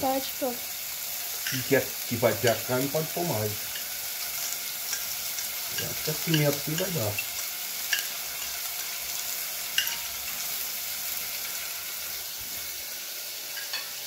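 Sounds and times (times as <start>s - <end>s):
onion sizzling in oil: 0.0s - 14.0s.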